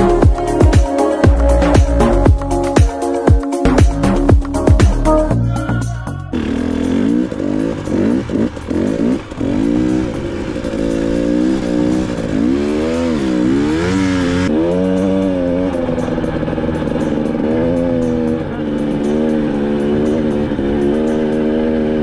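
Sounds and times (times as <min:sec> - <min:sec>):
motorcycle engine revving: 0:03.7 - 0:22.0.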